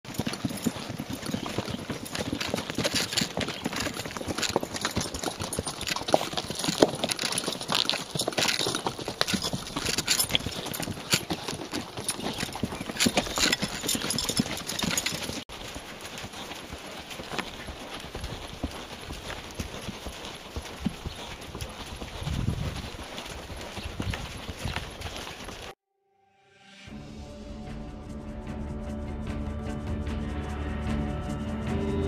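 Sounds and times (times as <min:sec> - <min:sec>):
horse hooves clip-clopping on dirt: 0:00.0 - 0:25.8.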